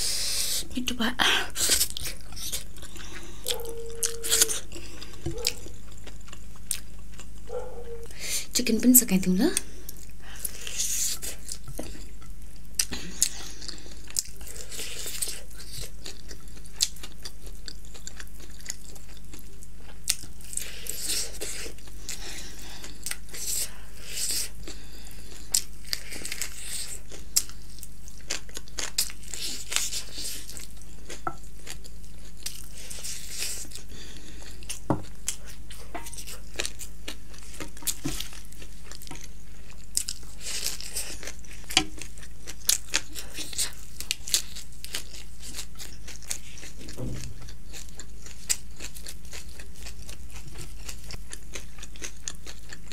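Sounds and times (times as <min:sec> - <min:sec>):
low electrical hum: 0:00.0 - 0:52.9
crunchy chewing and mouth smacking: 0:01.4 - 0:08.3, 0:09.5 - 0:52.9.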